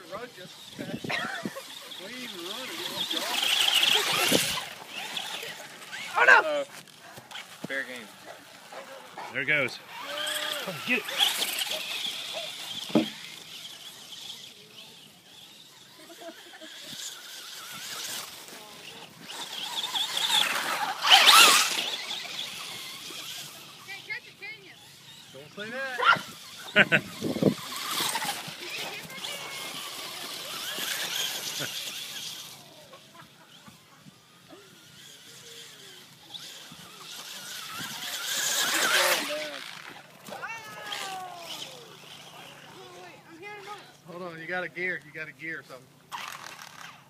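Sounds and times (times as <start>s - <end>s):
remote-control car motor whine: 0.0s - 44.0s, 46.0s - 47.0s.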